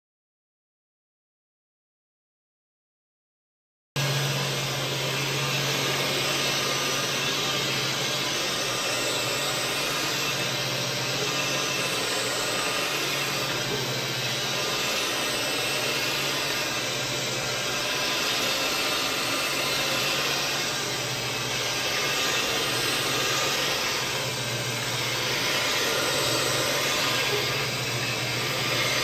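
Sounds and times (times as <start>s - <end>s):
carpet cleaning machine running: 4.0s - 29.0s.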